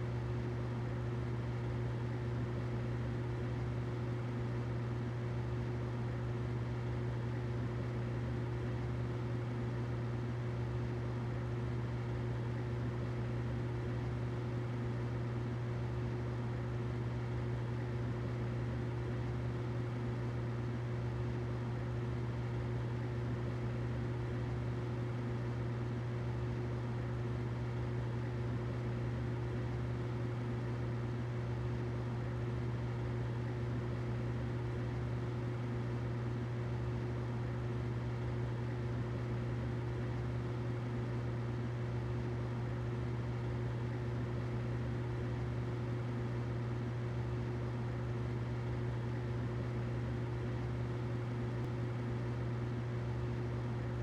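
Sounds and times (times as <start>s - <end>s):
humidifier running: 0.0s - 54.0s.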